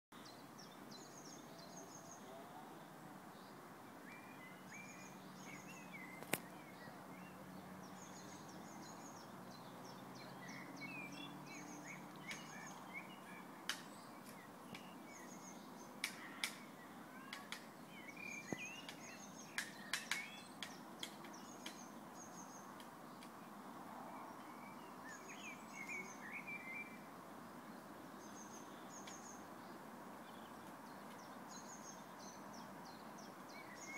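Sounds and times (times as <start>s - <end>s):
low background hiss: 0.2s - 33.9s
small birds chirping: 0.2s - 33.9s.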